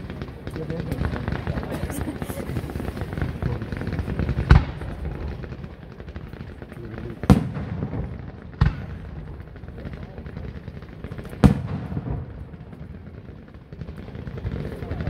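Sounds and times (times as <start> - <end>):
rapid crackling of fireworks: 0.0 - 15.0.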